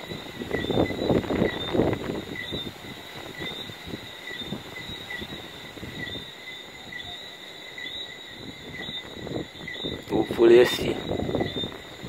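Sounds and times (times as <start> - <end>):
distant thunder rumbling: 0.0 - 12.0
night creatures chirping: 0.0 - 12.0.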